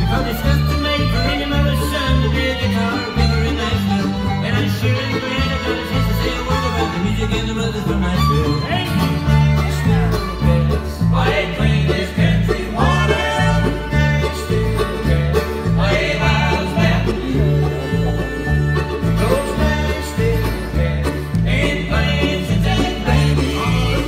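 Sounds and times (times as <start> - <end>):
bluegrass band playing: 0.0 - 24.0.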